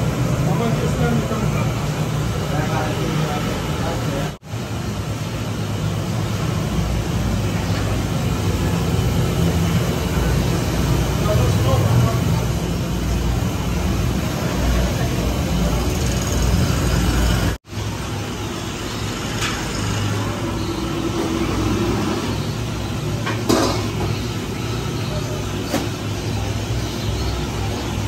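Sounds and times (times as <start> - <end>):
gas burner rumbling: 0.0 - 28.0.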